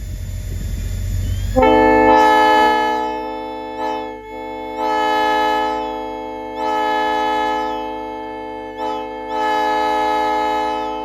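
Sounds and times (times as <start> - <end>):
locomotive air horn: 1.6 - 11.0.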